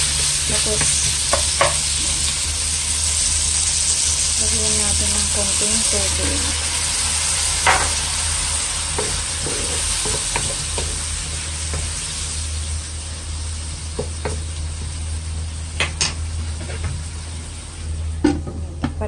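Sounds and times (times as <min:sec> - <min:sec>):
chicken sizzling in wok: 0:00.0 - 0:19.0.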